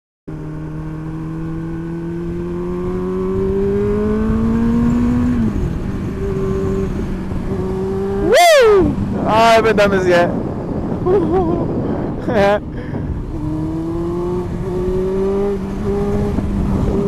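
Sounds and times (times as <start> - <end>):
motorcycle engine accelerating: 0.3 - 17.0
wind noise: 0.4 - 17.0.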